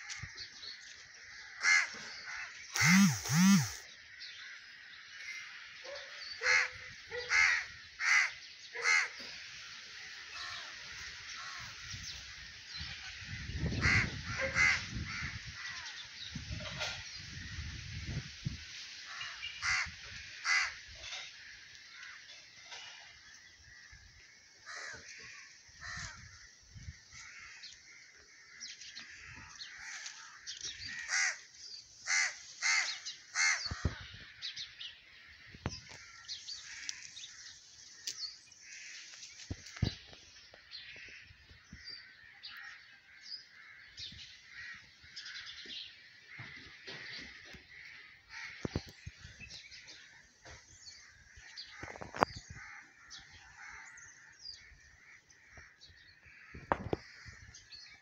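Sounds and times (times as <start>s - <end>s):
high background bird chorus: 0.0s - 58.0s
crows cawing: 1.2s - 5.6s, 6.4s - 9.6s, 10.3s - 12.0s, 13.3s - 16.0s, 19.1s - 34.4s, 35.1s - 40.2s, 40.8s - 49.2s, 49.9s - 58.0s.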